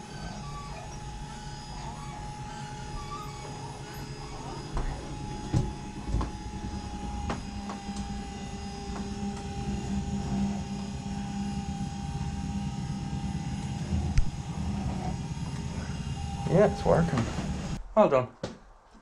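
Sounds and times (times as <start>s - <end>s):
stairlift motor humming: 0.0s - 17.8s.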